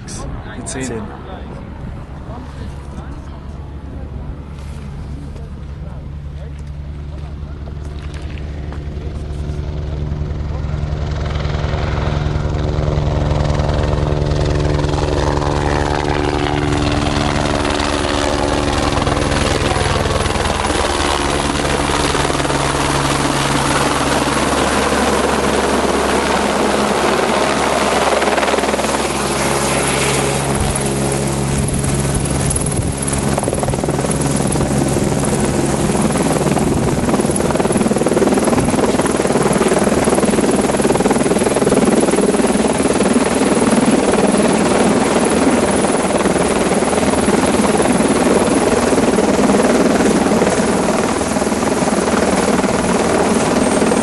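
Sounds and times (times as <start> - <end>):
helicopter flying close: 0.0 - 54.0.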